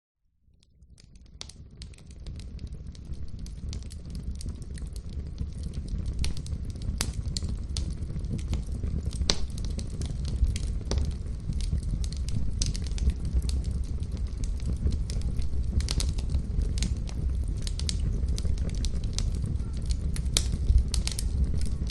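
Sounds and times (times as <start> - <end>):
fire pops and snaps: 0.6 - 21.9
wood fire crackling: 0.6 - 21.9.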